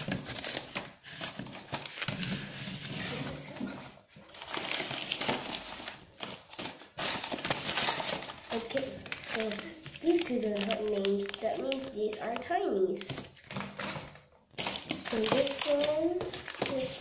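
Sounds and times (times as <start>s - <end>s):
plastic packets rustling: 0.0s - 17.0s.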